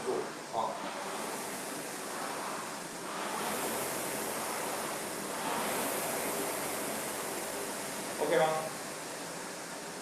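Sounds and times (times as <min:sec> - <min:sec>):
rowing machine fan whoosh: 0:00.0 - 0:10.0.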